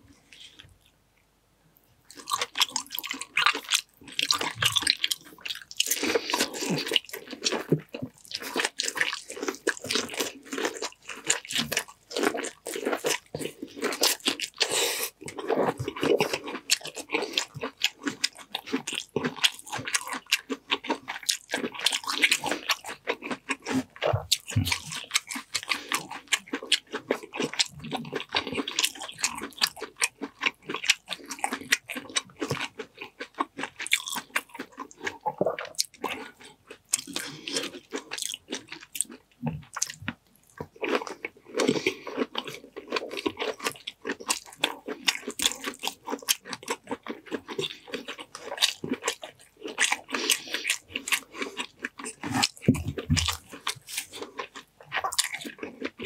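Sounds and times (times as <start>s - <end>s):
wet chewing clicks: 2.1s - 56.0s.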